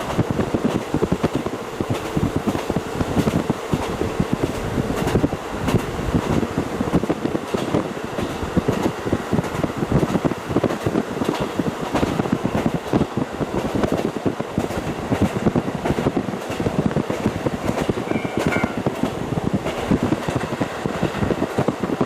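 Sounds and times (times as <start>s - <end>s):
rumble of wheels on rail: 0.0s - 22.0s
wind buffeting through open window: 0.0s - 22.0s.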